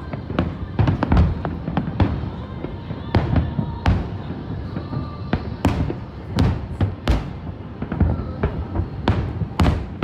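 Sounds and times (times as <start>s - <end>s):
firework crackling: 0.0s - 10.0s.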